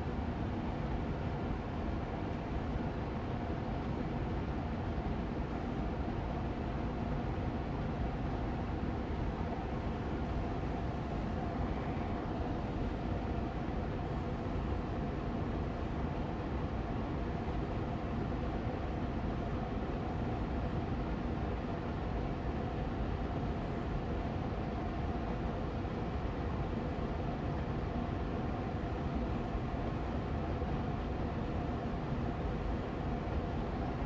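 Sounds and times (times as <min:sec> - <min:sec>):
air purifier fan running: 0:00.0 - 0:34.0
faint steady hum: 0:00.0 - 0:34.0.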